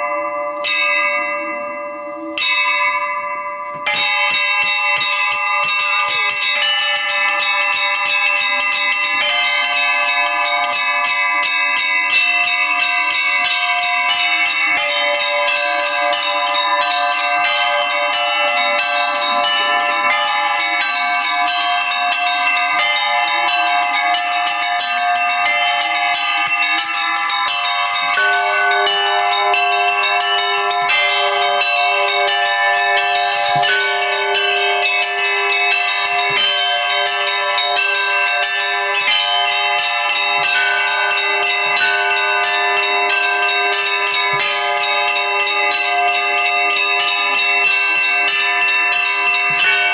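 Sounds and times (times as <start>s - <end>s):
rapid peal of church bells: 0.0s - 49.9s.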